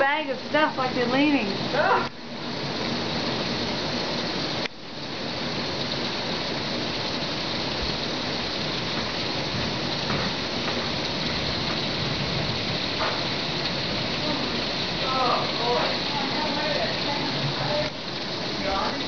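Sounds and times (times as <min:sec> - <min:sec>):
torrential rain pouring: 0:00.0 - 0:19.0.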